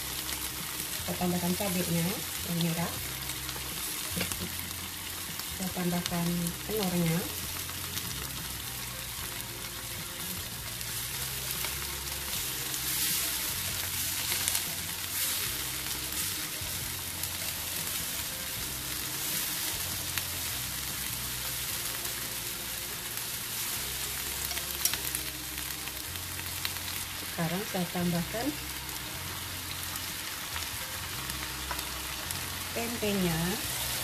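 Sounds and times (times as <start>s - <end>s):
food sizzling in oil: 0.0s - 34.0s.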